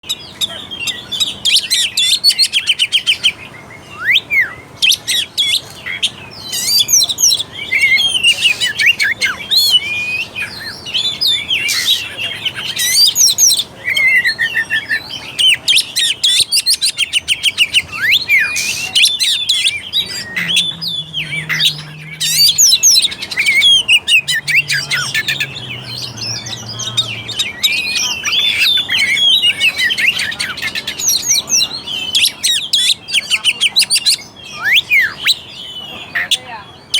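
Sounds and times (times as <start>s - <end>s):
magpie-robin singing: 0.0s - 36.9s.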